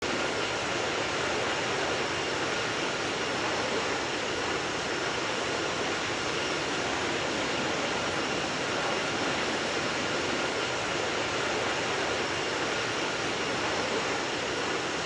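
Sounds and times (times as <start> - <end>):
airliner cabin engine roar: 0.0 - 15.0
faint steady whine: 0.0 - 15.0.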